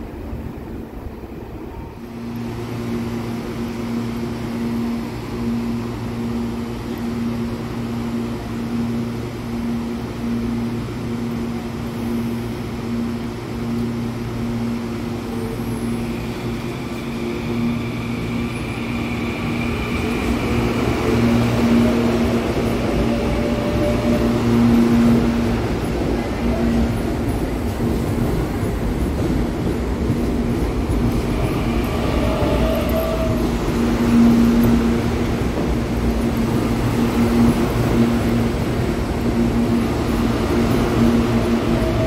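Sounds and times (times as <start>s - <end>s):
electric train rolling past: 0.0s - 42.0s.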